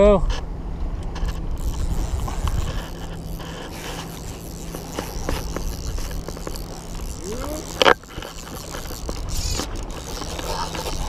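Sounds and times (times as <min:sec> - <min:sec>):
steady low hum: 0:00.0 - 0:11.0
wind rumble: 0:00.0 - 0:11.0.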